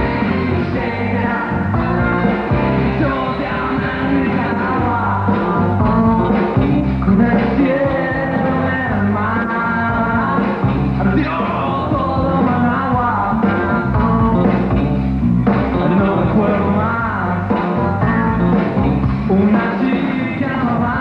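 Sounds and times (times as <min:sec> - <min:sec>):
man singing rock song: 0:00.0 - 0:14.9, 0:15.5 - 0:21.0
bass and drums backing: 0:00.0 - 0:21.0.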